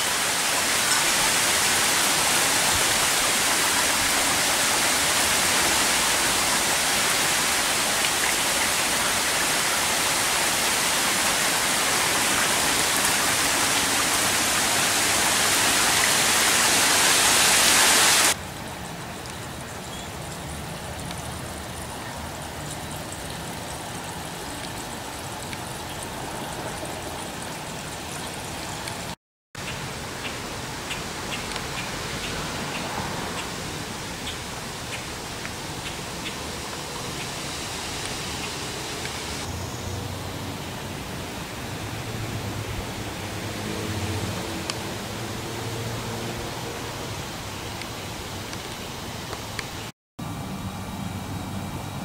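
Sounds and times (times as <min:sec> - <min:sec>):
steady rain hissing: 0:00.0 - 0:52.0.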